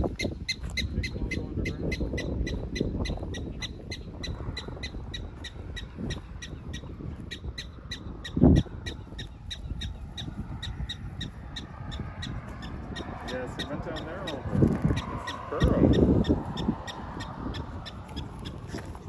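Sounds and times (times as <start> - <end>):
prairie dog alarm chirps: 0.0 - 18.8.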